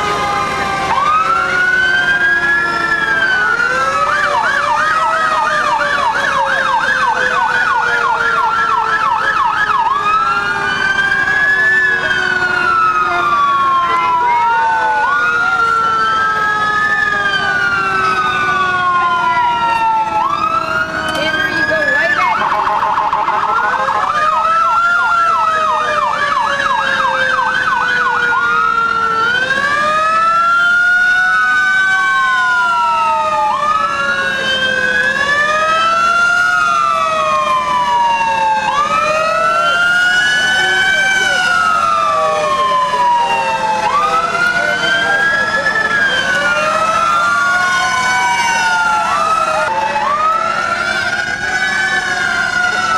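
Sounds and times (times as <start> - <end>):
emergency sirens wailing: 0.0 - 52.9
siren fast yelp: 0.0 - 52.9.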